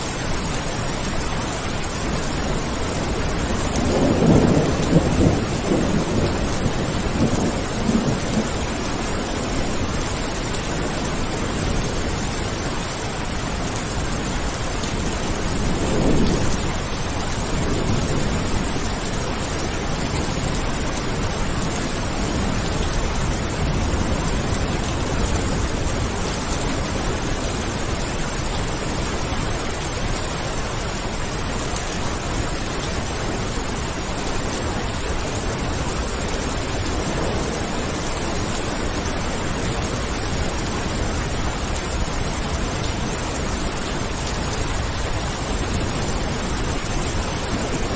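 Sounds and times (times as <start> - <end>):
heavy rain falling: 0.0 - 47.9
thunder rumbling: 0.0 - 47.9.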